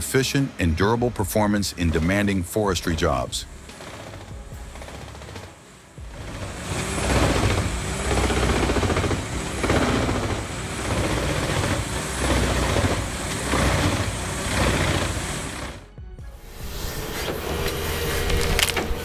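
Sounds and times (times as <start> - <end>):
diesel engine laboring: 0.0 - 19.0
wood chipper grinding: 1.8 - 19.0.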